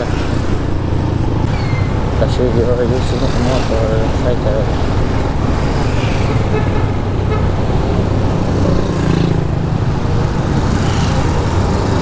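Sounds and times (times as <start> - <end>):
scooter engine and road noise: 0.0 - 12.0
vehicles passing: 0.0 - 12.0.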